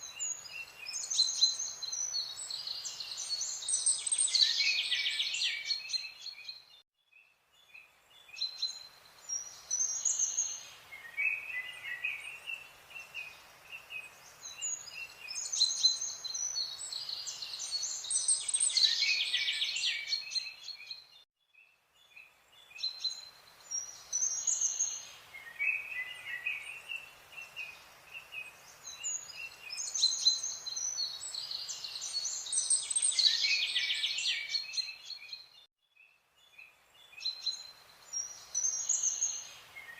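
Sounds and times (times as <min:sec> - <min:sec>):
birds chirping and trilling: 0:00.0 - 0:39.9
light background hiss: 0:00.0 - 0:39.9.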